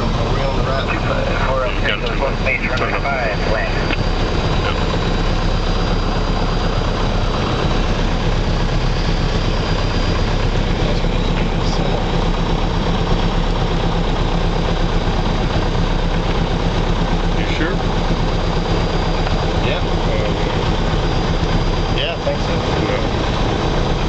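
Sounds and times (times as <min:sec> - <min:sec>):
light aircraft engine and propeller: 0:00.0 - 0:24.0.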